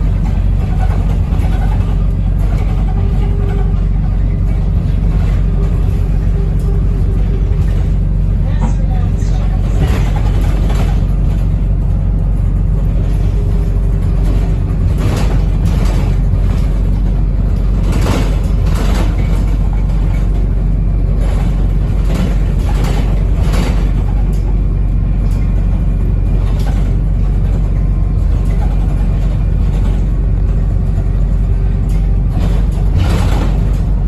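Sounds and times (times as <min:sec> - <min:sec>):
body knocks and rattles: 0:00.0 - 0:34.0
bus interior low rumble: 0:00.0 - 0:34.0.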